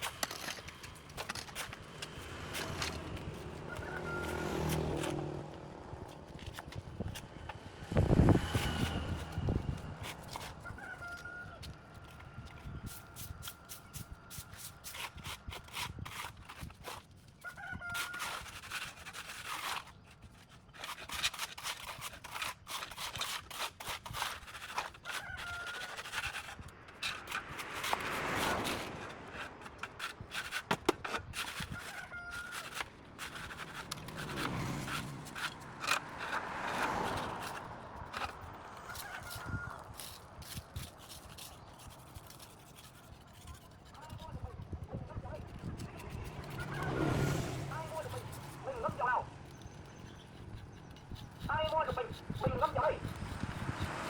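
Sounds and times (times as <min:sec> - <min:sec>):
sharp scraping and clicking: 0:00.0 - 0:54.0.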